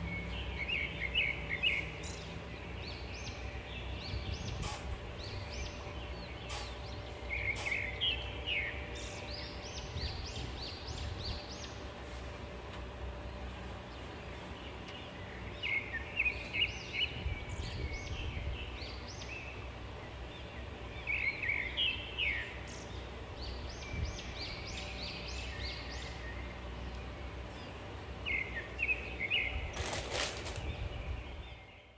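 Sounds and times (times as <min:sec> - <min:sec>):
bird chirping: 0:00.0 - 0:12.2, 0:13.3 - 0:31.9
steady low hum: 0:00.0 - 0:31.9.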